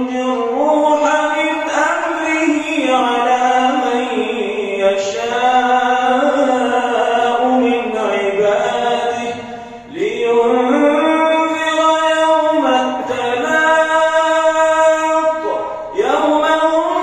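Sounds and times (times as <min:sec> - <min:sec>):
man chanting prayer recitation: 0:00.0 - 0:17.0.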